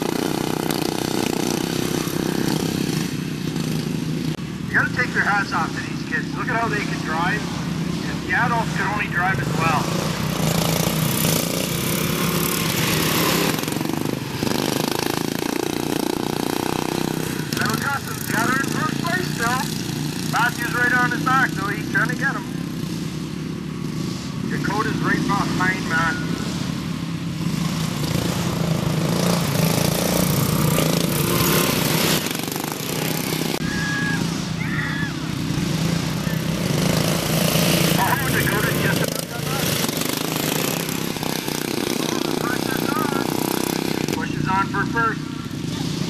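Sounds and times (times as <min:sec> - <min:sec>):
lawn mower engines racing past: 0:00.0 - 0:46.0.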